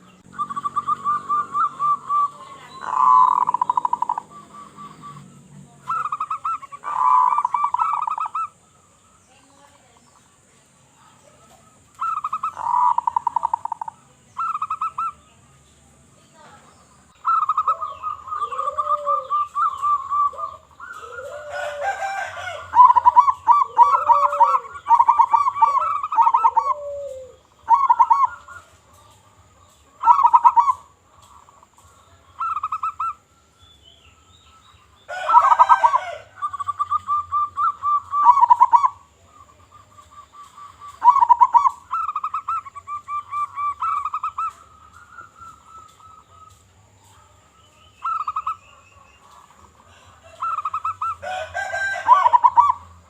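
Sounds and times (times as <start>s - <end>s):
low arched dove coos: 0.0s - 8.9s, 11.3s - 15.2s, 17.2s - 31.7s, 35.1s - 46.6s, 48.0s - 52.9s
doves trilled cooing: 0.0s - 53.0s.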